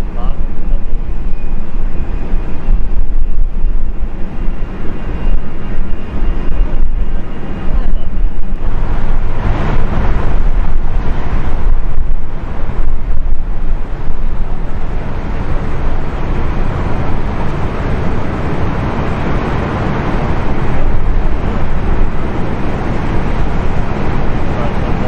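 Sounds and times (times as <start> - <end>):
jet engines rushing: 0.0 - 25.0
wind buffeting microphone: 0.0 - 25.0.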